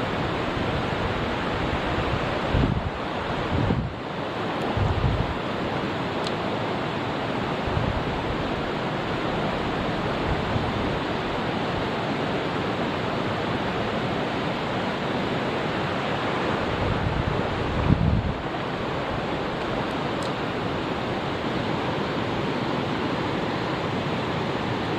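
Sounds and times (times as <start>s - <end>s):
mountain stream rushing: 0.0s - 24.9s.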